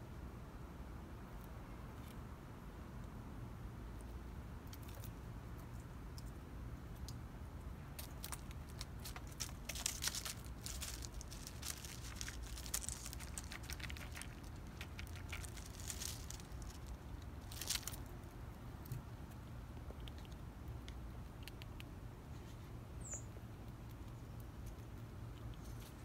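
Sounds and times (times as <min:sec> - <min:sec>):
squirrel gnawing and crunching: 0:01.2 - 0:26.0.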